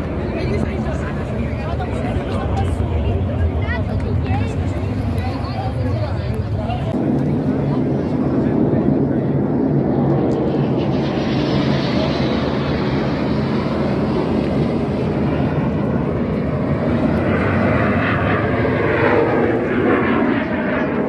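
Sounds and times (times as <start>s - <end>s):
airplane engine roar: 0.0s - 21.0s.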